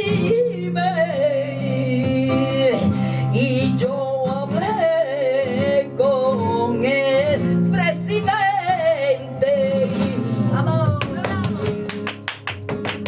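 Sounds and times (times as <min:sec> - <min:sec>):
person singing: 0:00.0 - 0:11.6
flamenco guitar: 0:00.0 - 0:13.0.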